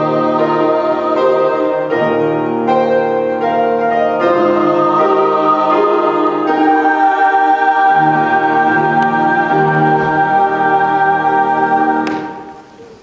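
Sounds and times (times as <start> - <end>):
choir singing chords: 0.0 - 12.9
keyboard accompaniment: 0.0 - 13.0.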